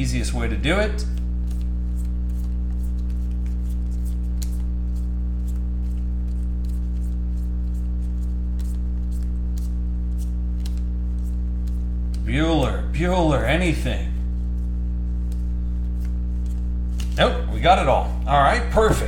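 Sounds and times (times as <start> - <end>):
steady low hum: 0.0 - 19.0
cards flicking and sliding: 1.0 - 12.7, 14.3 - 19.0.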